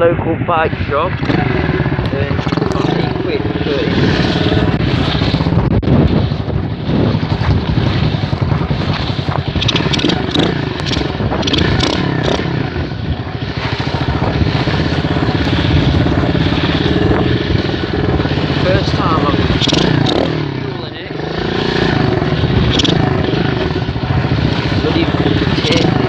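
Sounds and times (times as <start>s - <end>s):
pit bike engine running: 0.8s - 26.0s.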